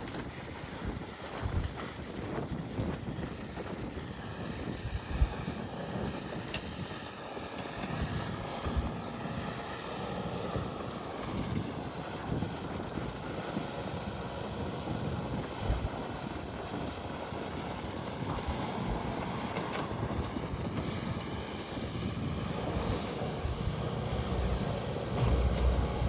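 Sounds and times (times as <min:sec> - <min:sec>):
vehicle engine rumble: 0:00.0 - 0:26.0
wind buffeting microphone: 0:00.0 - 0:26.0.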